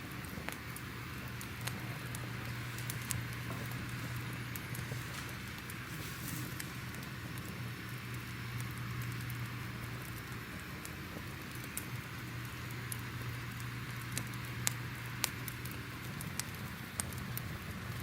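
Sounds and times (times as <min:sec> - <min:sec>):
fire hissing: 0:00.0 - 0:18.0
fire popping and snapping: 0:00.0 - 0:18.0.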